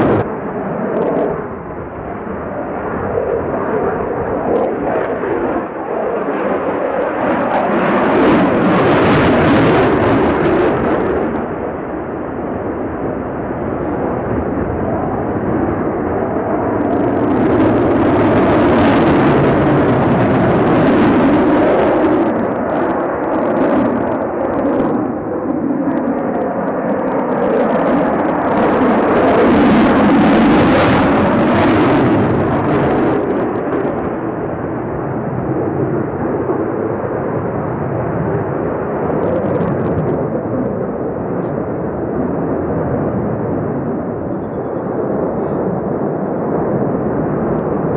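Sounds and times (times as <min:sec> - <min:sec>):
loud jet noise: 0:00.0 - 0:47.9.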